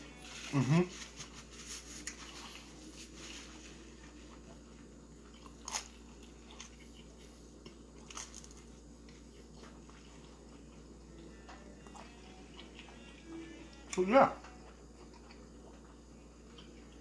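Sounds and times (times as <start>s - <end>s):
person chewing pizza: 0.1s - 17.0s.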